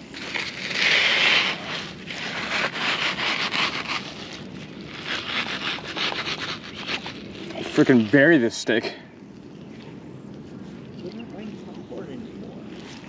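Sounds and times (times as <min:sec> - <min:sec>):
scraping and crackling rustle: 0:00.0 - 0:13.0.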